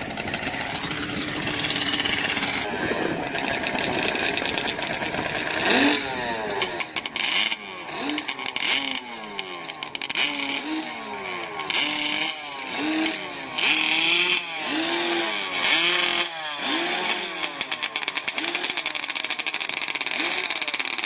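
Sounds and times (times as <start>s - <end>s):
racing engine revving: 0.0s - 21.0s.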